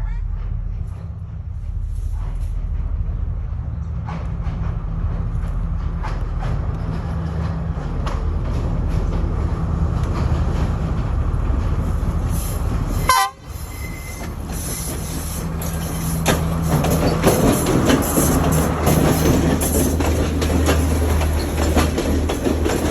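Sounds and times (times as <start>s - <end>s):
diesel train engine drone: 0.0s - 22.9s
wheels clicking over rails: 3.6s - 22.9s.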